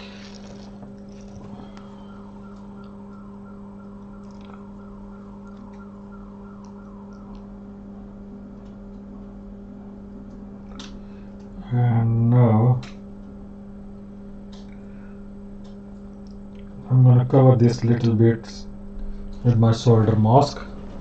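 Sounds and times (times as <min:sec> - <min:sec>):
electrical hum: 0:00.0 - 0:21.0
faint repeating whirr: 0:00.0 - 0:21.0.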